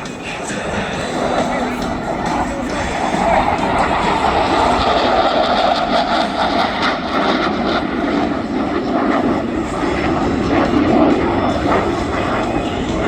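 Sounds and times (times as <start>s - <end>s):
jet aircraft rumble: 0.0s - 13.0s.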